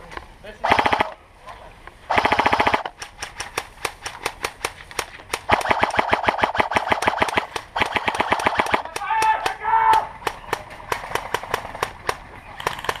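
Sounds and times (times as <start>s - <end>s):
airsoft rifles firing: 0.6s - 1.2s, 2.1s - 13.0s.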